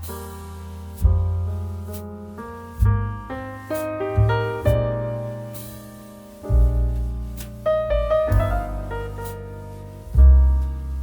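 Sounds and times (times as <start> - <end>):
deep bass: 0.0 - 11.0
piano chords: 0.0 - 11.0.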